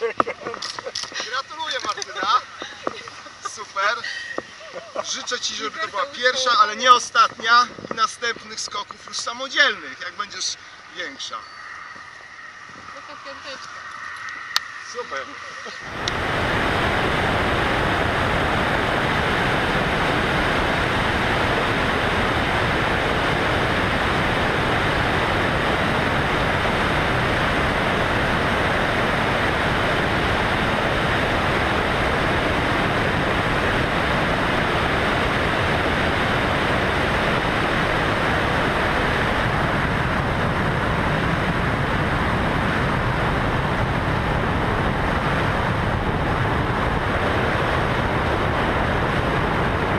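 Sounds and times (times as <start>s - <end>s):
propeller engine noise: 0.0s - 49.9s
wind rushing: 4.5s - 49.9s.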